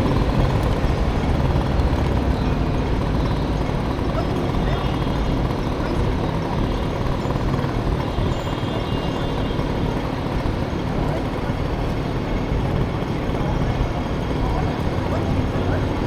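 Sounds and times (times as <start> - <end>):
road noise: 0.0 - 16.0
scooter engine: 0.0 - 16.0.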